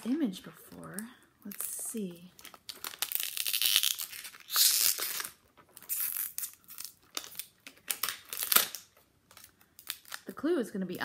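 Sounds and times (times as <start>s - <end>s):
wrapping crinkling and tearing: 0.0s - 11.0s.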